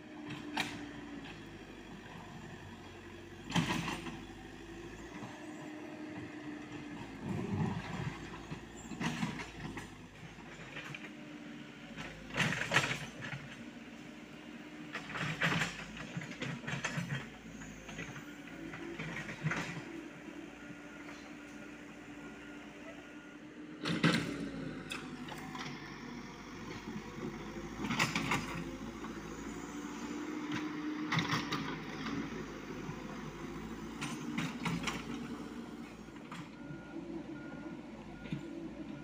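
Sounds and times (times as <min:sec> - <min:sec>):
mini excavator diesel engine running: 0:00.0 - 0:39.0.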